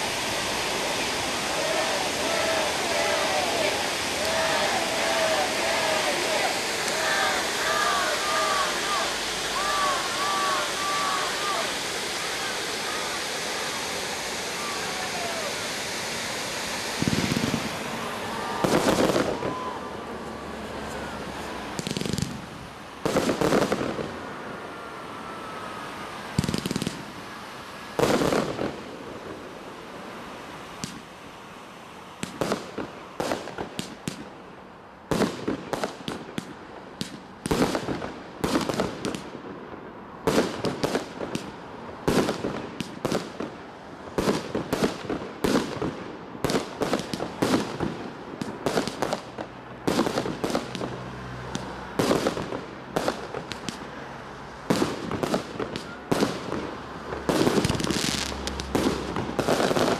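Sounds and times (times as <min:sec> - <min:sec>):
fireworks bangs: 0:00.0 - 0:24.6, 0:26.3 - 0:27.2, 0:27.9 - 0:29.5, 0:30.8 - 0:31.1, 0:32.2 - 0:34.3, 0:35.1 - 0:53.9, 0:54.6 - 0:59.9.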